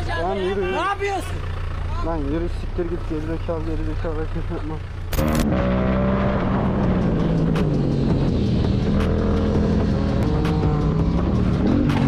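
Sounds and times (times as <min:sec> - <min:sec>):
motorcycle engine running: 0:00.0 - 0:05.4, 0:06.5 - 0:12.0.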